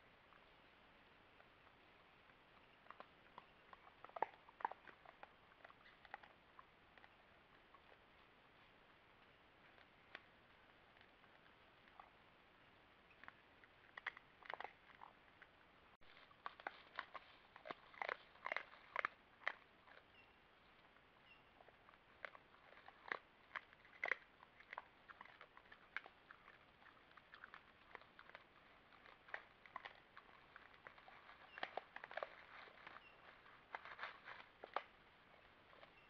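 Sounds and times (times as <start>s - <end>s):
animals crunching corn kernels: 1.4s - 36.0s.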